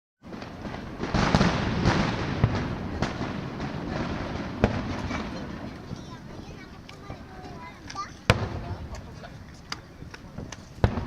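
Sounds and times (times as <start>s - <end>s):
fireworks booming: 0.2s - 11.0s
fireworks cracks and crackling: 0.2s - 11.0s.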